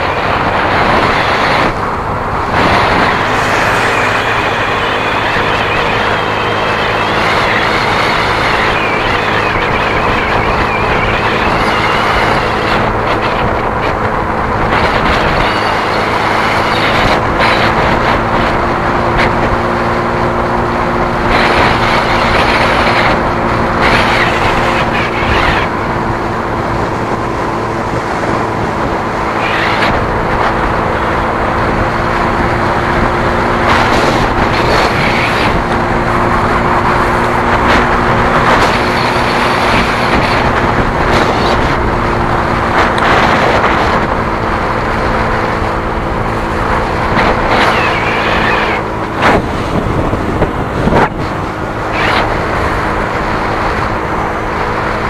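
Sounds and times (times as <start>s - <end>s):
rushing wind: 0.0s - 55.0s
vehicle engine hum: 0.0s - 55.0s.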